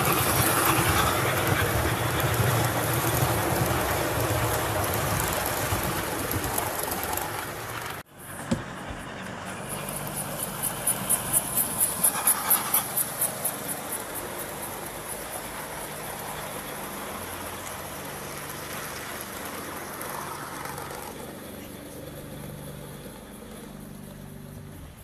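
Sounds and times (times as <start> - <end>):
model train wheels rumbling: 0.0 - 25.0
rhythmic steam locomotive chuffs: 0.0 - 25.0.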